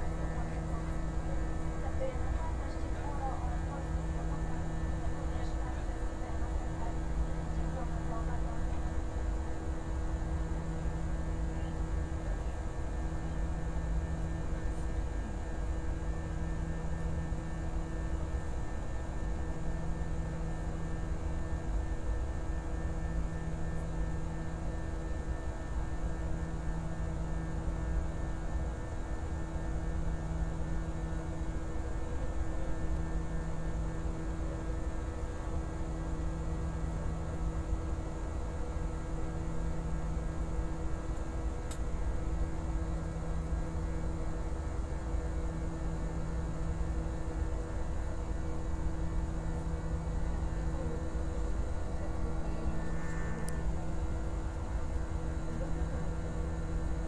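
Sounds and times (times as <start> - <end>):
airliner engines rumbling: 0.0 - 57.0
low hum tone: 0.0 - 57.0.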